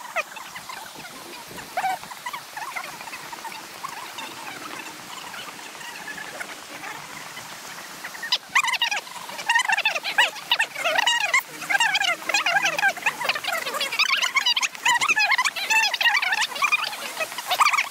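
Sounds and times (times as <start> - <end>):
chattering animal calls: 0.0 - 17.9.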